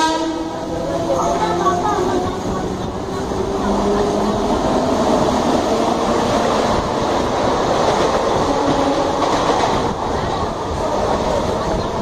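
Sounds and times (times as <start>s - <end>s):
passing train alongside: 0.0s - 12.0s
train wheels rattling on rails: 0.0s - 12.0s.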